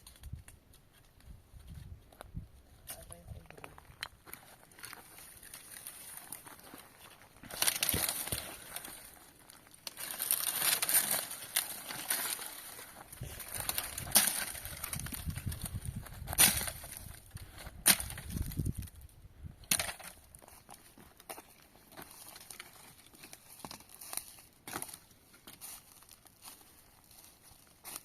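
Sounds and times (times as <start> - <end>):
rustling and crunching: 0.0 - 28.0.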